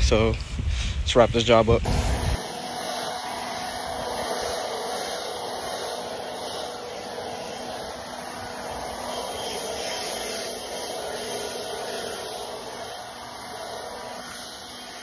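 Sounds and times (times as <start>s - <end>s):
leaf blower running: 1.9s - 15.0s.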